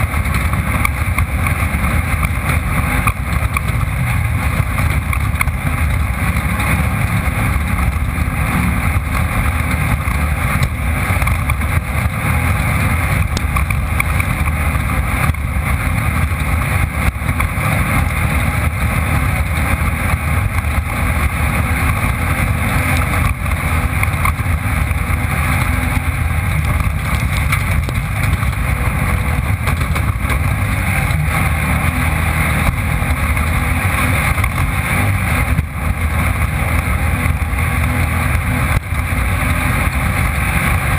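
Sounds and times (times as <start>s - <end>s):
race vehicle engine running hard: 0.0s - 40.9s
rushing noise: 0.0s - 40.9s.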